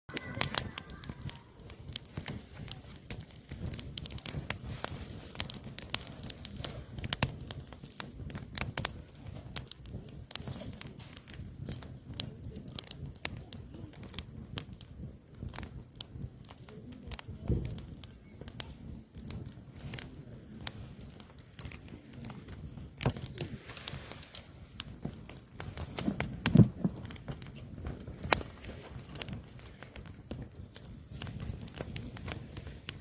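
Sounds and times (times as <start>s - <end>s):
firewood crackling and popping: 0.1s - 33.0s
low rumble of flames: 0.1s - 33.0s.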